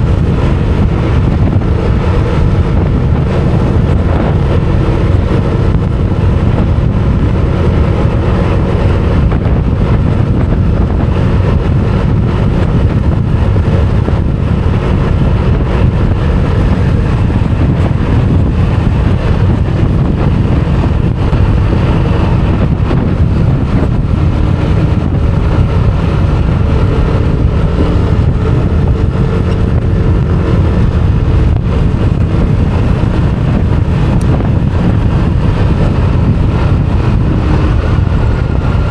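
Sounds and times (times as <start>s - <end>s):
scooter engine running: 0.0s - 38.9s
wind buffeting microphone: 0.0s - 38.9s.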